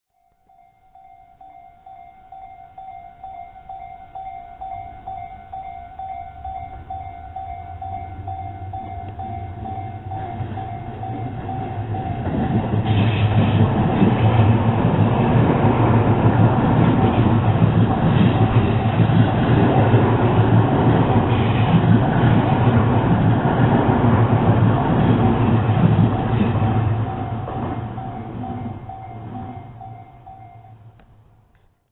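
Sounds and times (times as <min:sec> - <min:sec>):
level-crossing warning bell: 0:00.1 - 0:31.4
train rumble: 0:01.5 - 0:31.7.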